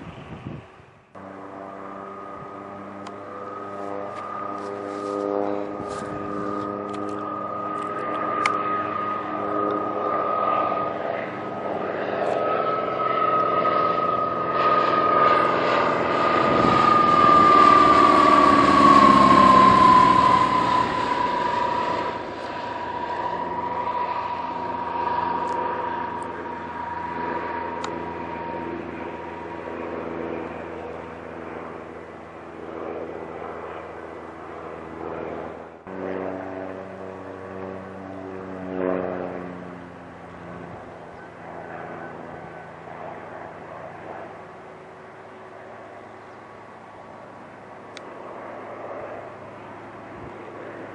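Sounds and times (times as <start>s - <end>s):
aircraft engine running steadily: 0.0s - 50.9s
propeller aircraft flying past: 0.0s - 50.9s.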